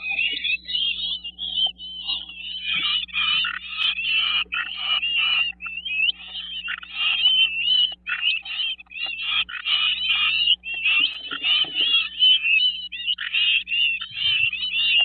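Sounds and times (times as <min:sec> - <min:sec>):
faint low hum: 0:00.0 - 0:15.0
nestlings begging calls: 0:00.0 - 0:15.0.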